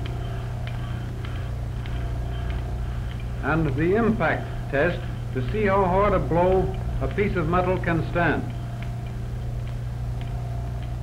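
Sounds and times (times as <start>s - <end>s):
light machine clicks: 0.0s - 11.0s
machine low hum: 0.0s - 11.0s.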